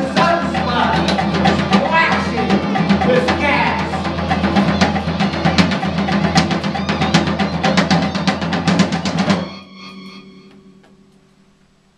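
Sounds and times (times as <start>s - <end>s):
live percussive ensemble playing: 0.0s - 11.4s
held notes ringing: 0.0s - 11.9s.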